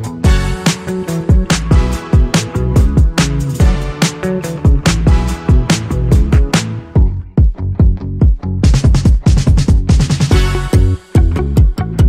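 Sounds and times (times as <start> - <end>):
upbeat music with kick drum: 0.0 - 12.0.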